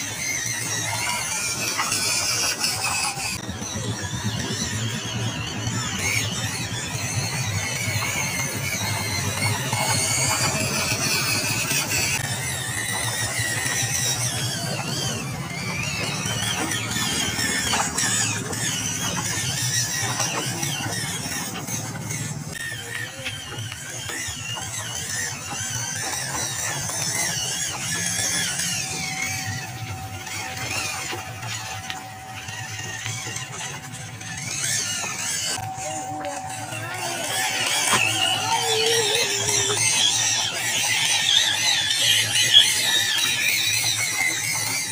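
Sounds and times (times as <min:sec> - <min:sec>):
small electric motor whining: 0:00.0 - 0:44.9.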